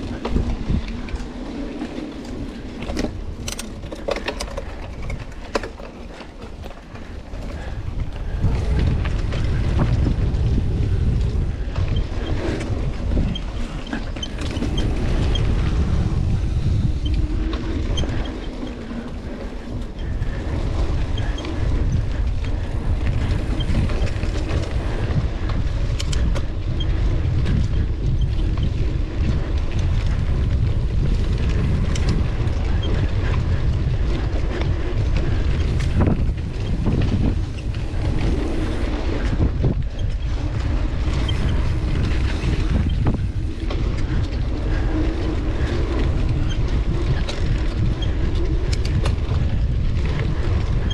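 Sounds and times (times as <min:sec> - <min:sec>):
bike rattles: 0:00.0 - 0:50.9
bike tyres rolling: 0:00.0 - 0:50.9
wind rumble on microphone: 0:00.0 - 0:50.9.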